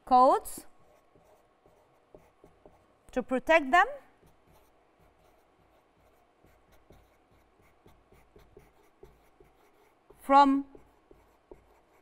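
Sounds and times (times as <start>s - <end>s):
marker pen writing on board: 0.8s - 3.0s, 4.1s - 12.0s.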